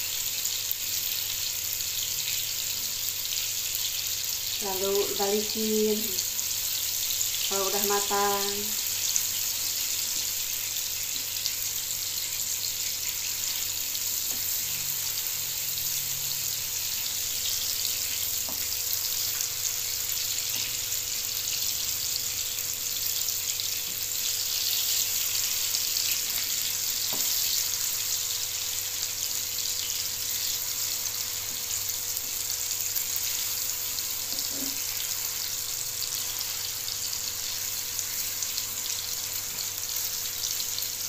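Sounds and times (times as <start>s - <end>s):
bananas sizzling in a frying pan: 0.0s - 41.0s.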